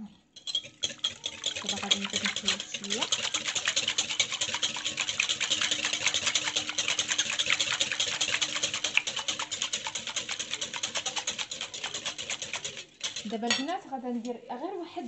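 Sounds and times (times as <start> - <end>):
wire whisk beating liquid in bowl: 0.4 - 13.8.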